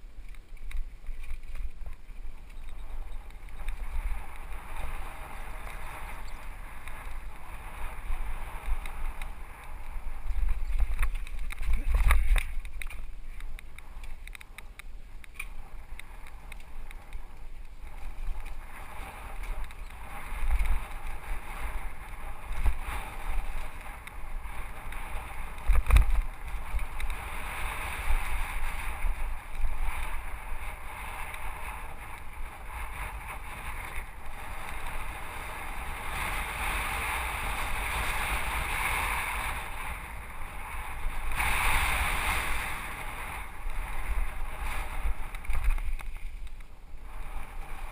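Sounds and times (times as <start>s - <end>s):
wind and tyre noise: 0.0s - 47.9s.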